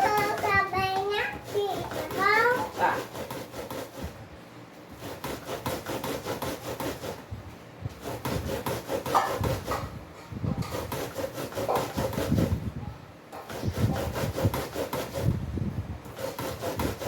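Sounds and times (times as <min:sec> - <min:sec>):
corn scraped on metal grater: 0:00.0 - 0:04.2, 0:04.9 - 0:07.3, 0:08.0 - 0:12.7, 0:13.4 - 0:15.4, 0:16.1 - 0:17.0.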